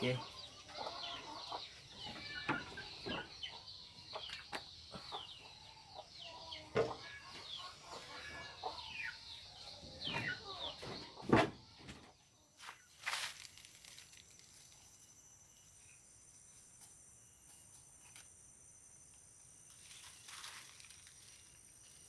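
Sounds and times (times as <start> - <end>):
birds chirping: 0.0 - 17.7.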